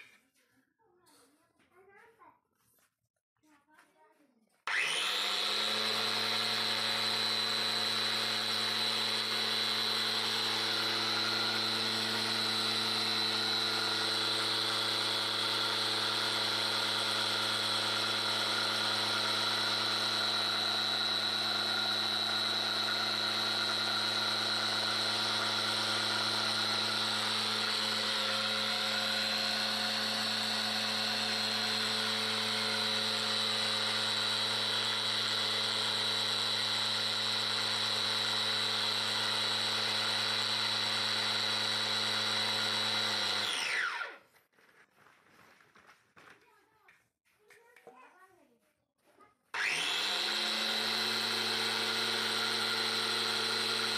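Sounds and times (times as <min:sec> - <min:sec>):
electric grain mill grinding: 0:04.7 - 0:44.3, 0:49.6 - 0:53.9.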